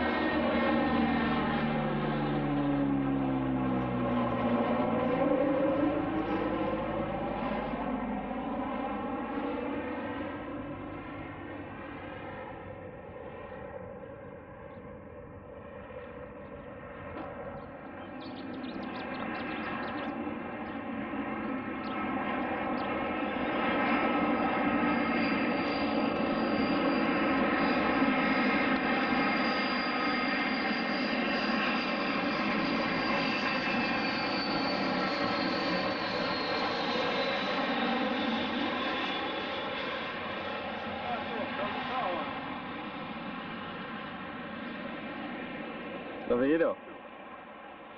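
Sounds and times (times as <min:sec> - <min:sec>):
aircraft engine noise: 0:00.0 - 0:47.9.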